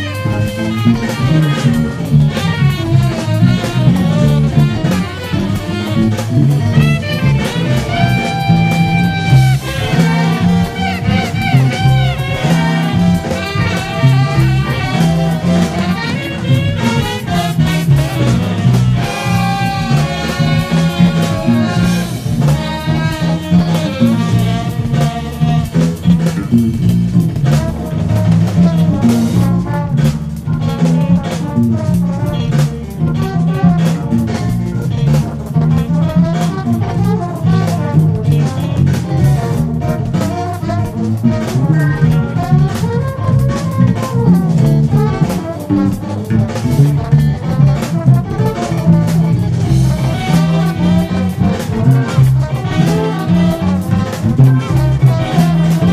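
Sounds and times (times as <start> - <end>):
fingerpicked electric bass: 0.0 - 55.9
funk jazz band music: 0.0 - 55.9.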